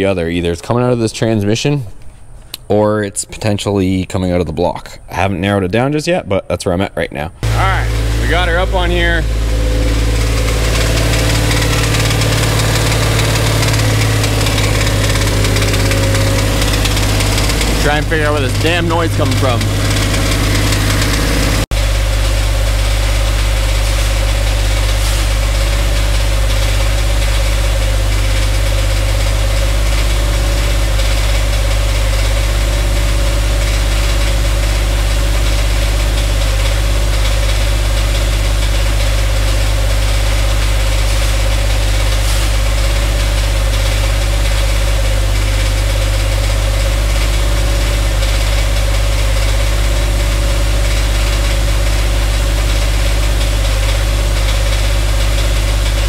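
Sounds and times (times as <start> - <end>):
engine ticking: 7.4 - 56.0
truck engine running: 7.4 - 56.0.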